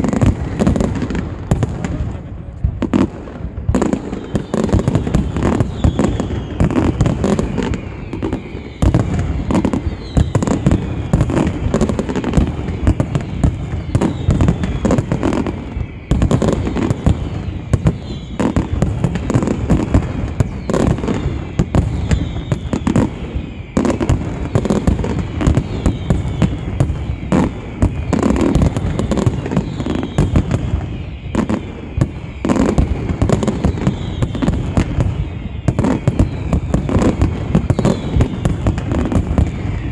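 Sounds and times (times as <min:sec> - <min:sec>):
fireworks bursts and crackling bangs: 0:00.0 - 0:39.9
fireworks whistles falling in pitch: 0:00.0 - 0:39.9.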